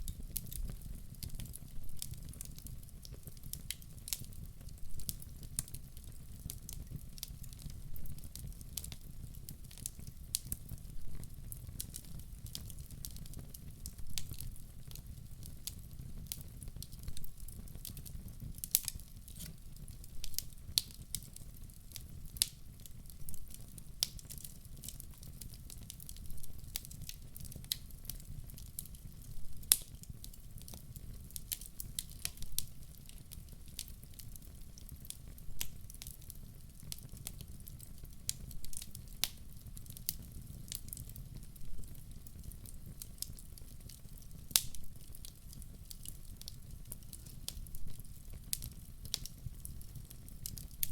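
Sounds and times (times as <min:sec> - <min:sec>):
fire low rumble: 0:00.0 - 0:50.9
wood fire crackling and popping: 0:00.0 - 0:50.9.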